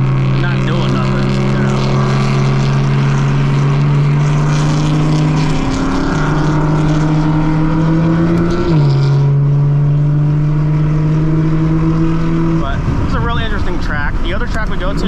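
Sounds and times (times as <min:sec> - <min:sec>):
car engine drone: 0:00.0 - 0:15.0
wind and tyre noise: 0:00.0 - 0:15.0.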